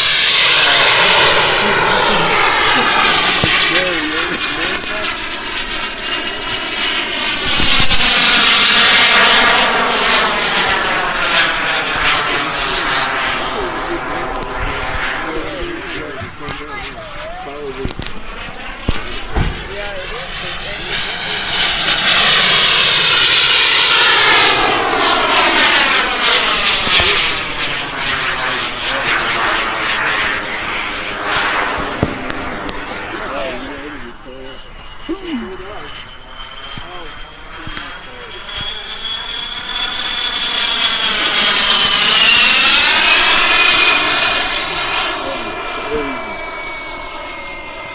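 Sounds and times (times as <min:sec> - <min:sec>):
jet engine whine: 0:00.0 - 0:47.9
jet exhaust rushing: 0:00.0 - 0:47.9.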